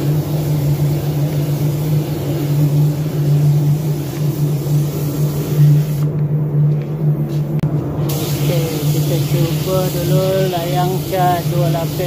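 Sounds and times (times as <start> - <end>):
air spray gun hissing: 0.0 - 6.1, 8.0 - 12.0
low machine hum: 0.0 - 12.0.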